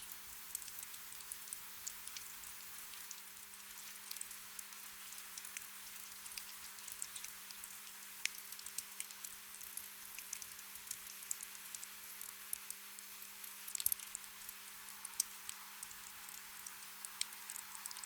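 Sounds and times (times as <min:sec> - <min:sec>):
gentle rain patter: 0:00.0 - 0:18.0.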